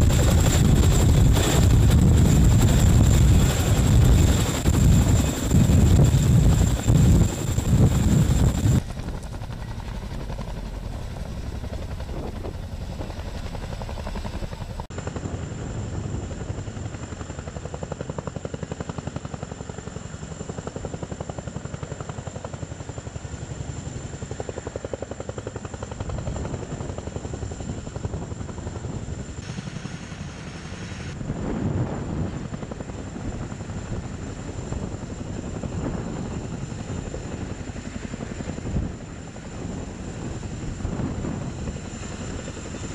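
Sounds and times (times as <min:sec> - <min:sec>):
helicopter rotor blades beating: 0:00.0 - 0:42.9.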